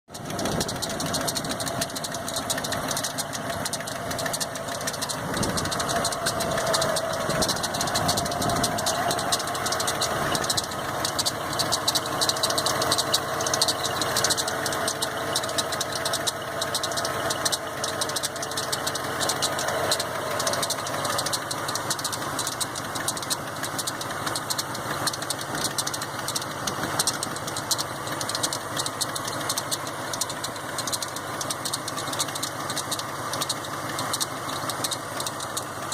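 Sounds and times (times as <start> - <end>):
engine idling: 0.0 - 35.9
drive belt squealing: 0.1 - 35.9.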